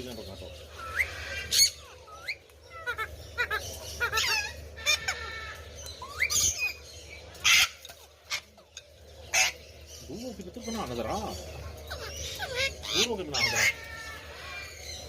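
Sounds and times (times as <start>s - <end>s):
parrots screeching: 0.4s - 15.0s
parrots whistling and chirping: 0.4s - 15.0s.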